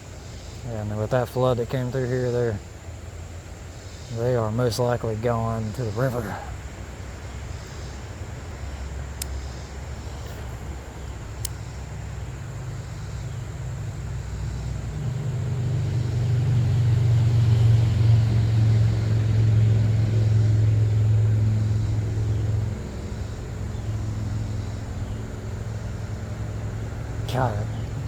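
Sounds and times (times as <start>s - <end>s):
passing vehicle hum: 0.0s - 28.0s.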